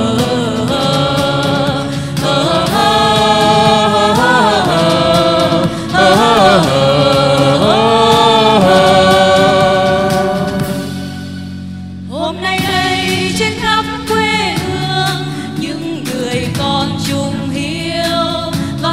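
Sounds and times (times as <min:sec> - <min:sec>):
people singing sustained notes: 0:00.0 - 0:16.4
instrumental backing: 0:00.0 - 0:18.9.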